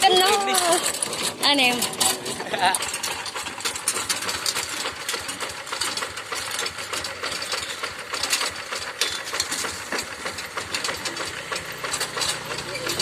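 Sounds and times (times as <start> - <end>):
hand tractor engine clattering: 0.0 - 13.0.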